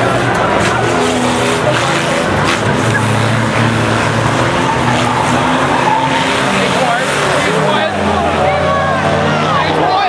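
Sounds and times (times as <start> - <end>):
racing car engines revving: 0.0 - 10.0.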